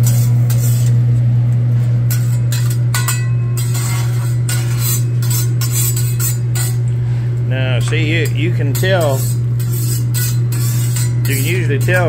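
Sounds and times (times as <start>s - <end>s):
metal spatulas scraping griddle: 0.0s - 1.1s, 2.1s - 6.9s, 7.5s - 12.0s
steady low hum: 0.0s - 12.0s.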